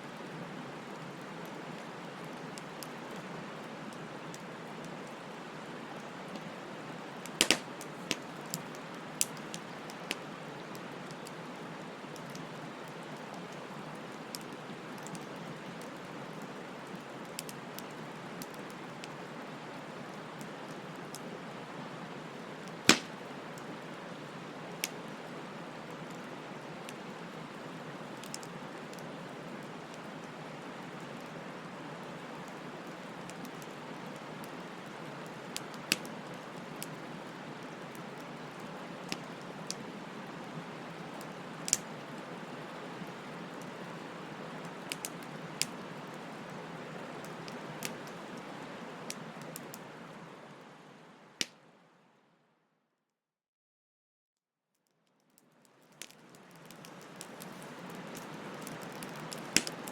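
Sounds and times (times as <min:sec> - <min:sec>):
bonfire hissing and popping: 0:00.0 - 0:51.6, 0:55.4 - 0:59.9.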